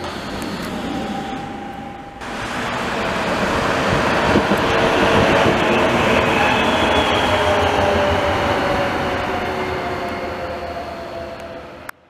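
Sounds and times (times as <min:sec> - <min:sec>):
tram passing by: 0:00.0 - 0:12.0
tram rolling with whine: 0:00.0 - 0:12.0.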